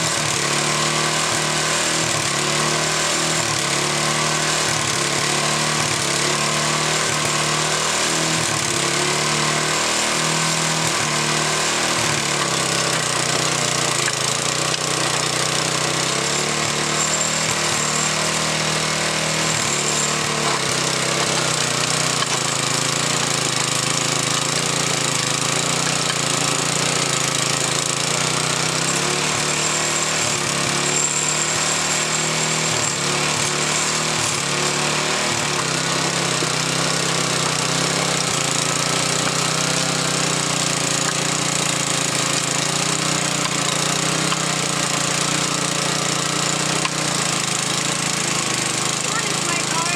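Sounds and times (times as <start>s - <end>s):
garden tiller engine running: 0.0s - 49.9s.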